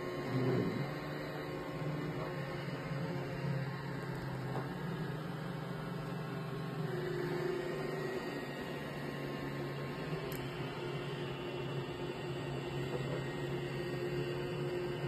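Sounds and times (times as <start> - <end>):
robot vacuum motor hum: 0.0 - 15.0.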